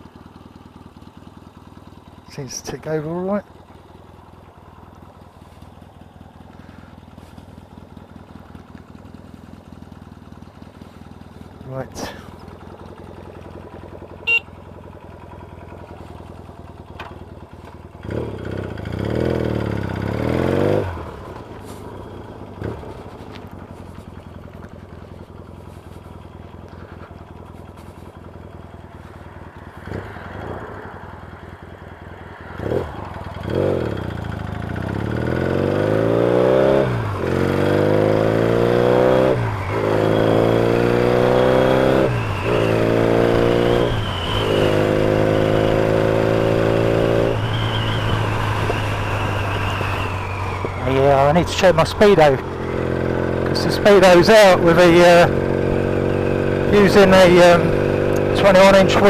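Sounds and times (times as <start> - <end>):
motorcycle engine revving and accelerating: 0.0 - 59.0.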